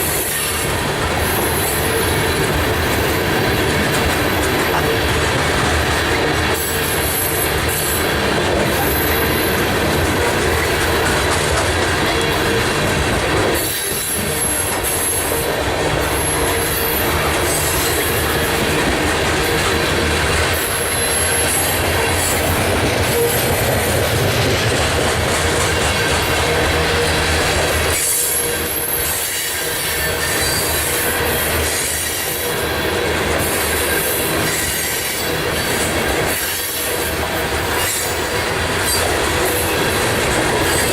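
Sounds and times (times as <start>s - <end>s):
clickety-clack over rail joints: 0.0s - 40.9s
freight train rolling past: 0.0s - 40.9s
wheels squealing against rails: 0.0s - 40.9s.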